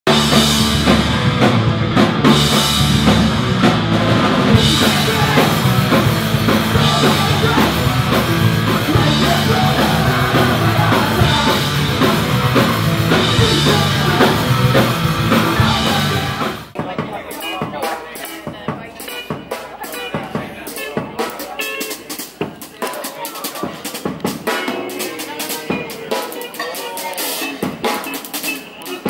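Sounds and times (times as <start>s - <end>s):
drum kit fast beat: 0.0s - 29.0s
electric guitars: 0.1s - 29.0s.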